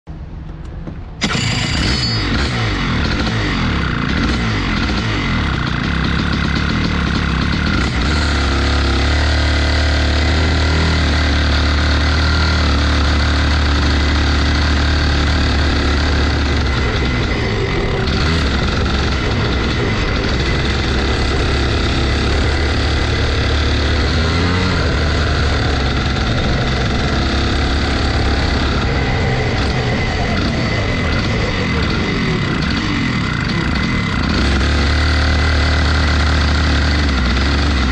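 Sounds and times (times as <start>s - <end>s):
kart engine revving: 1.2s - 37.9s.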